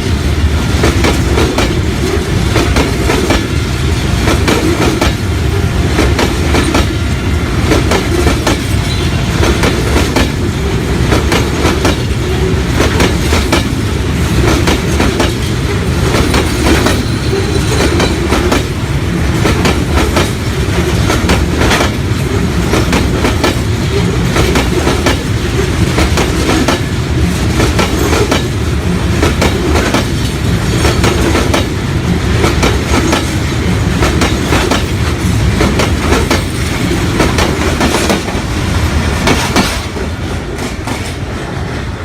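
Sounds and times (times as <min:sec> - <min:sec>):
train rumbling on track: 0:00.0 - 0:42.0.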